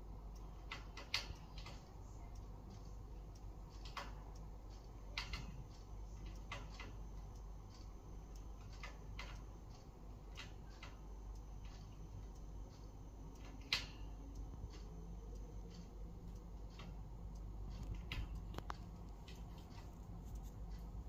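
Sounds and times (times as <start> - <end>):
low steady hum: 0.0 - 21.0
light clicks and taps: 0.4 - 11.0, 11.6 - 21.0.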